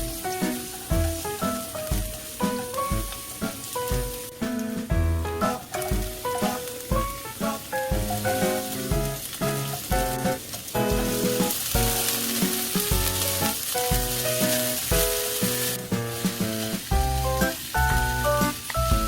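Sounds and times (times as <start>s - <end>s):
background music with plucked melody: 0.0s - 19.0s
food sizzling in a frying pan: 0.0s - 19.0s.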